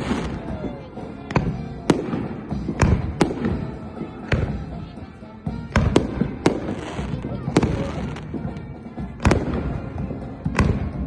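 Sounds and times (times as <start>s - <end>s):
fireworks bangs with rumbling echo: 0.0s - 11.0s.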